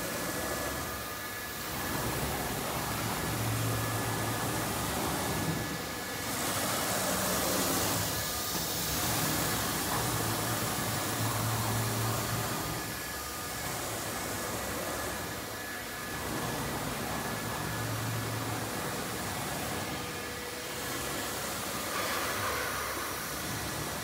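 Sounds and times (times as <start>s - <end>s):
cnc router running: 0.0s - 24.0s.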